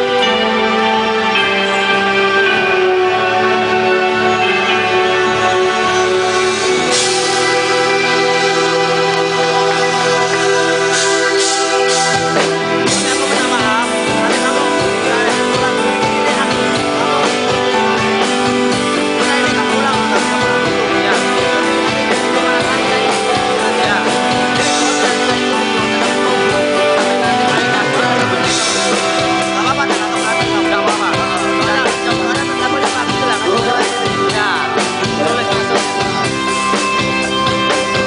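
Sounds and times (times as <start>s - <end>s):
electric guitar: 0.0s - 38.0s
drum kit beat: 2.1s - 38.0s.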